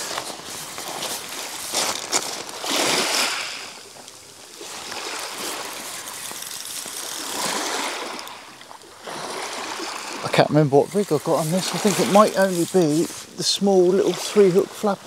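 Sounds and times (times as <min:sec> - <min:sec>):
small waves washing onto shingle: 0:00.0 - 0:15.0.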